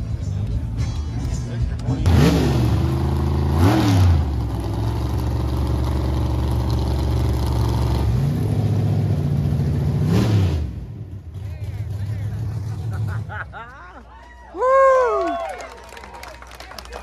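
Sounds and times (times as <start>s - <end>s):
racing car engine revving and idling: 0.0s - 13.6s.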